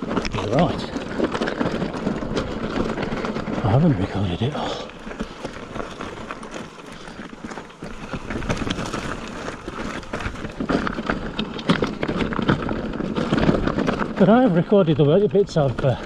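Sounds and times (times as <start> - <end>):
bike clattering on rocky trail: 0.0 - 16.0.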